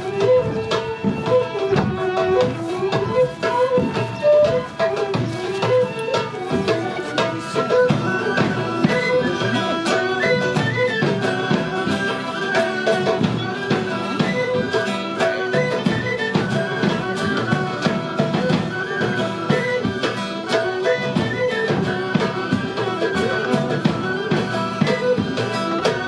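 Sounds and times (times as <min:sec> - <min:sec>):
small band playing dance music: 0:00.0 - 0:26.0.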